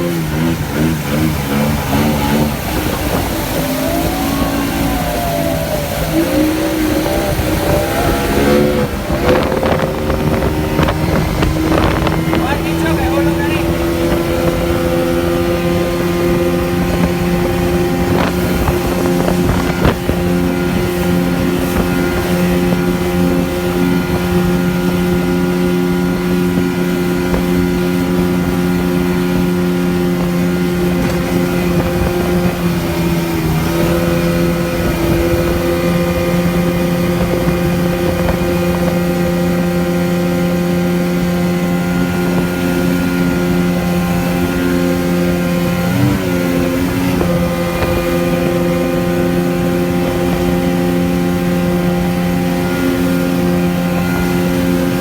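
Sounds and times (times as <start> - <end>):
motorboat engine running: 0.0 - 55.0
wind noise on microphone: 0.0 - 55.0.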